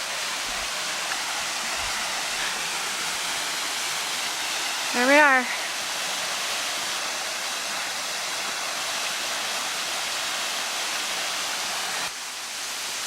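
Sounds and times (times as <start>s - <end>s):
waterfall pouring into a pool: 0.0s - 13.0s.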